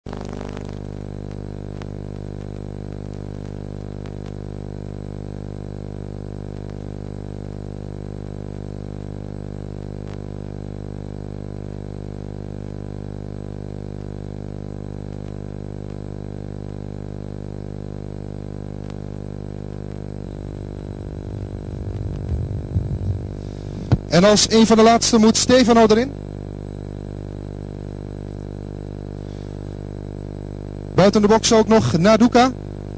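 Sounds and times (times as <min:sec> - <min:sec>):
mains hum buzz: 0:00.0 - 0:32.9.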